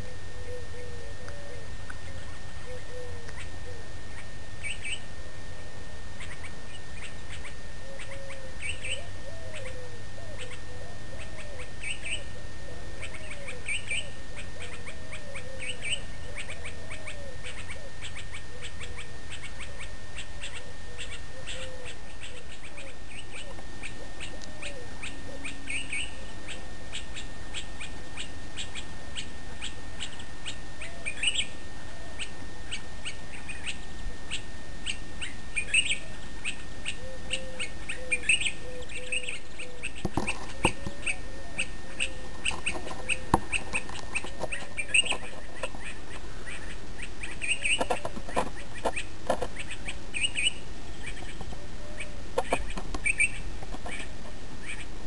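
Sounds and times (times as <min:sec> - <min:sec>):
birds chirping: 0:00.0 - 0:55.0
low swooping bird calls: 0:00.0 - 0:55.0.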